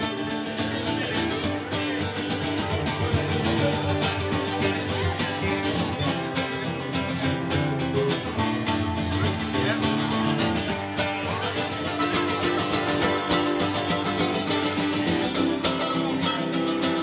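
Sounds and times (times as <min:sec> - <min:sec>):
acoustic guitars picking and strumming: 0:00.0 - 0:17.0.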